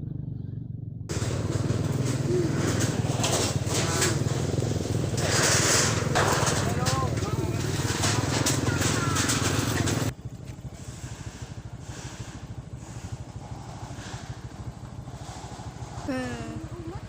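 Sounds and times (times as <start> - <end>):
small petrol engine idling: 0.0 - 17.0.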